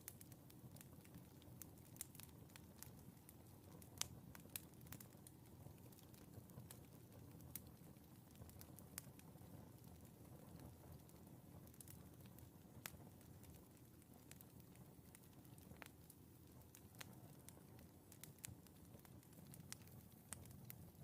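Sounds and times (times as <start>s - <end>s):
fire pops: 0.0s - 21.0s
wood fire crackling: 0.0s - 21.0s.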